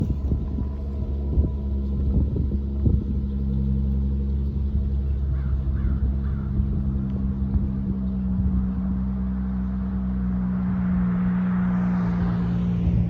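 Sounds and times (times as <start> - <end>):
car engine running at low revs: 0.0 - 13.0
exhaust crackles: 0.0 - 13.0.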